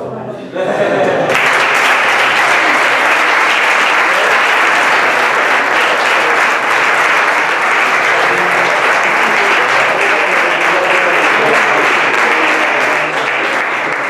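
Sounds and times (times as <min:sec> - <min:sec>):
crowd applauding: 0:01.3 - 0:14.0.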